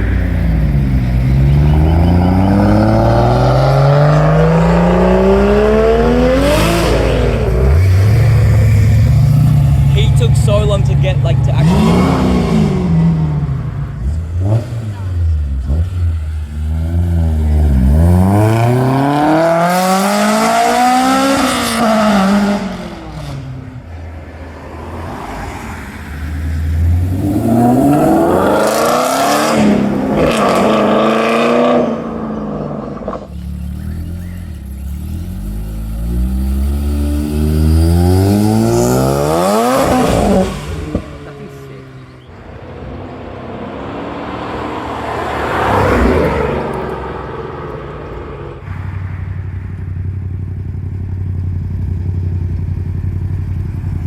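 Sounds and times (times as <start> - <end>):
cars accelerating hard: 0.0 - 49.2.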